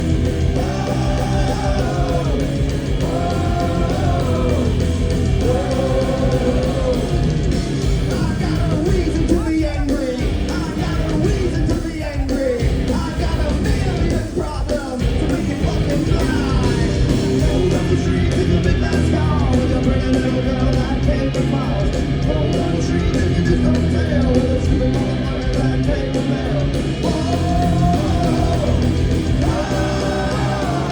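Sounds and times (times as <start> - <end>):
bass guitar: 0.0 - 30.9
distorted electric guitars: 0.0 - 30.9
drums: 0.0 - 30.9
man singing and yelling: 0.0 - 30.9.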